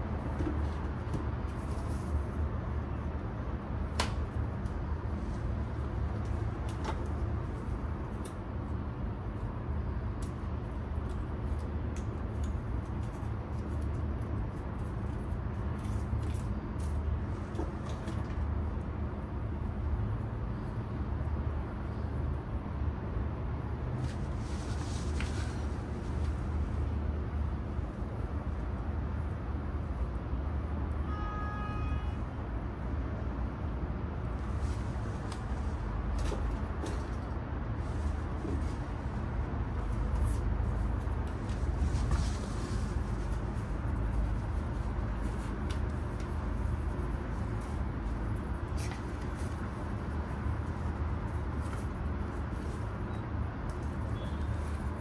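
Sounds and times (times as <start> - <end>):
distant traffic: 0.0 - 55.0
wind: 0.0 - 55.0.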